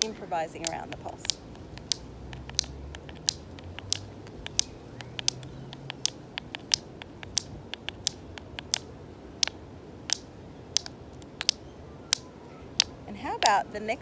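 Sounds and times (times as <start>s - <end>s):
rocks clicking together: 0.0s - 13.6s.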